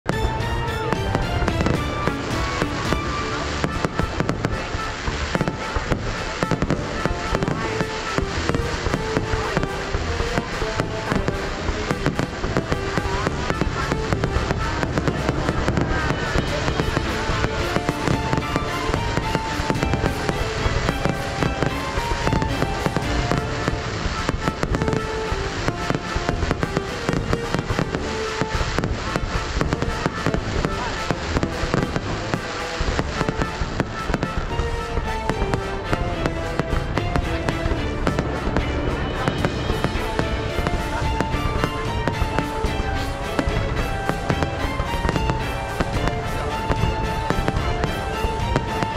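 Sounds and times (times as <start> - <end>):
fireworks bangs and crackles: 0.0 - 48.9
music with melody: 0.1 - 48.9.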